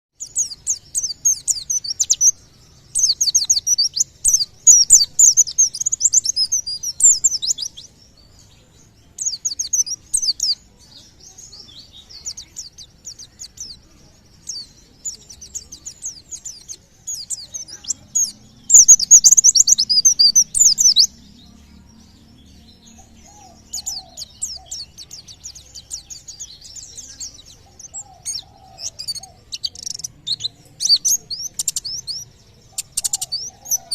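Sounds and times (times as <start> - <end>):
bird singing in chirping bursts: 0.1 - 33.9.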